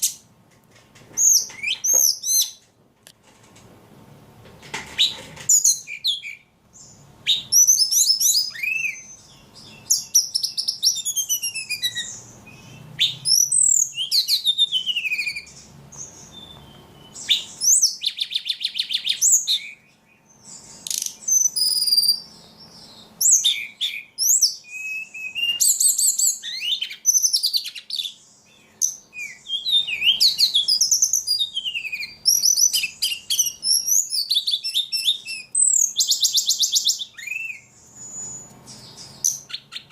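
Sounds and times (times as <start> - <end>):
songbird singing: 1.1 - 2.7, 4.9 - 39.9.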